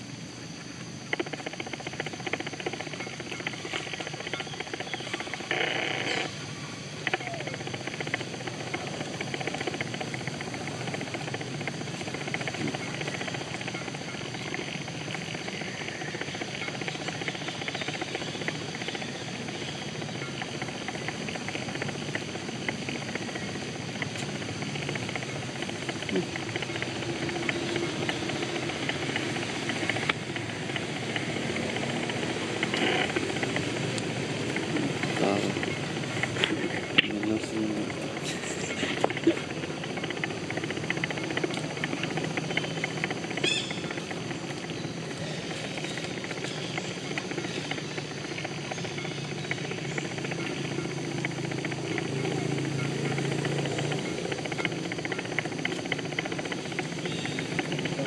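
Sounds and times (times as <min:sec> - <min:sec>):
hissing forest ambience: 0:00.0 - 0:58.0
faint clicks: 0:00.5 - 0:58.0.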